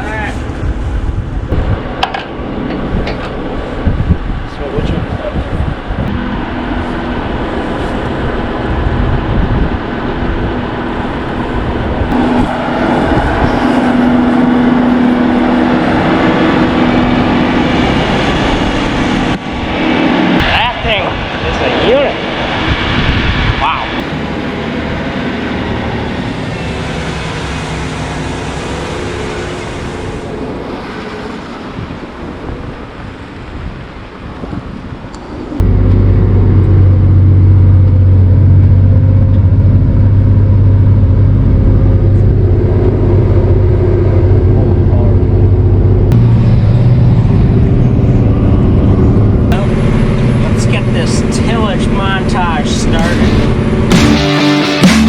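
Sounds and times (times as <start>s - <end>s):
diesel tractor engine running: 0.0s - 21.4s, 24.0s - 34.2s, 34.8s - 55.0s
constant hum: 0.0s - 55.0s.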